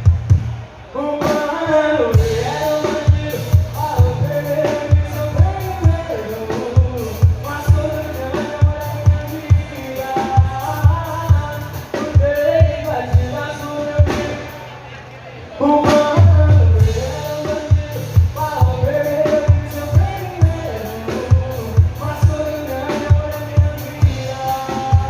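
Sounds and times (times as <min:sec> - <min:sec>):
steady drum beat: 0:00.0 - 0:14.5, 0:15.9 - 0:25.0
live band playing: 0:00.0 - 0:25.0.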